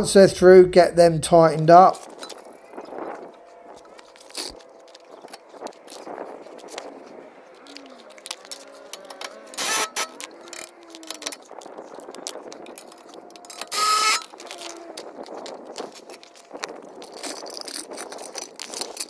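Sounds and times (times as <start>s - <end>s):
tool handling clicks: 2.0s - 19.0s.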